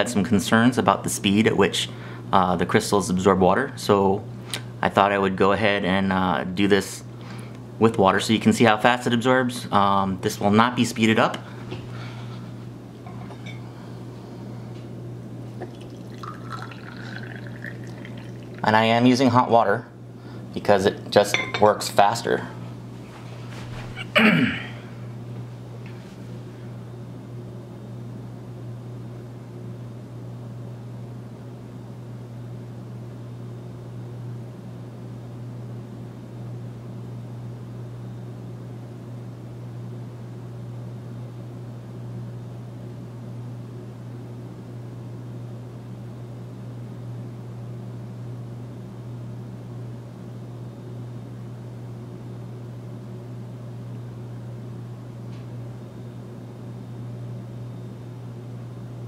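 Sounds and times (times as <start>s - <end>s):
low hum with hiss: 0.0s - 59.0s.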